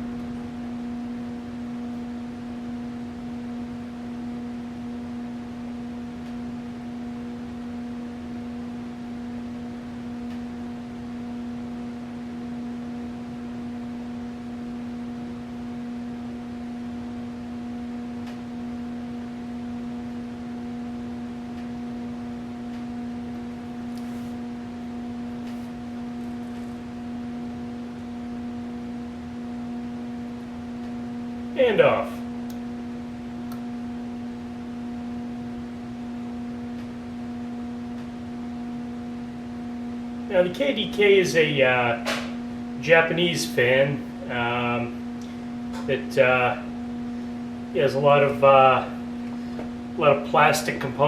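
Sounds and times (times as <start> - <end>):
ceiling fan motor hum: 0.0 - 51.0.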